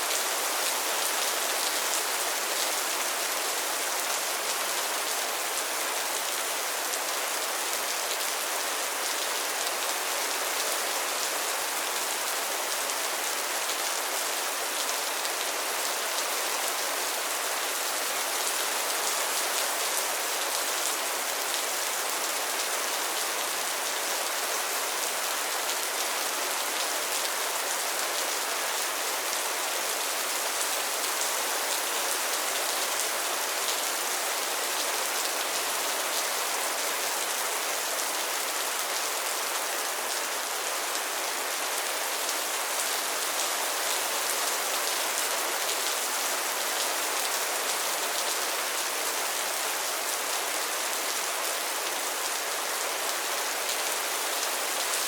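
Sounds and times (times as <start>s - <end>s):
rain falling on pond: 0.0s - 55.0s.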